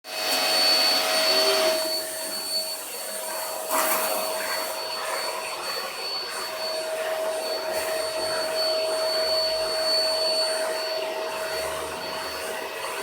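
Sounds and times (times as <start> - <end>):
vacuum cleaner running: 0.1 - 13.0.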